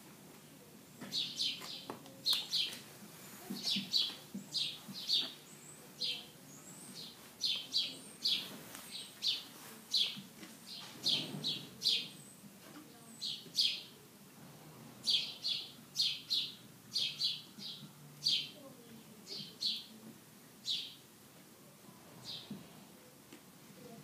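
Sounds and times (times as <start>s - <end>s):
small birds chirping: 0.4s - 14.0s, 15.0s - 20.0s, 20.6s - 21.0s, 22.2s - 22.6s.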